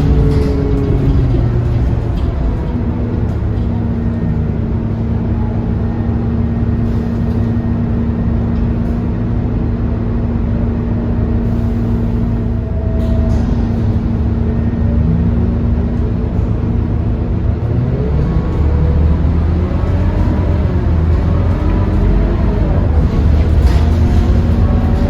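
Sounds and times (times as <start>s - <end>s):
bus diesel engine droning: 0.0s - 25.0s.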